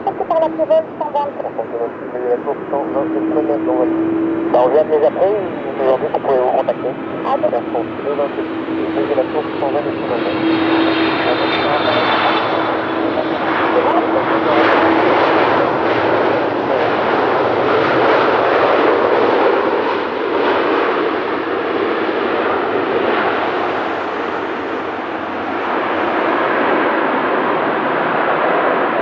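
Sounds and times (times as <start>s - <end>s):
jet engine rushing: 0.0s - 29.0s.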